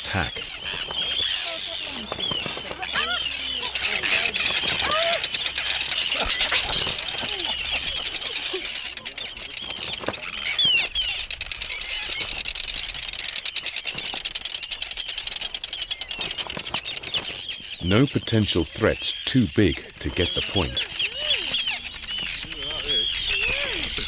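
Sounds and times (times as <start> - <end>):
terns calling: 0.0 - 24.0.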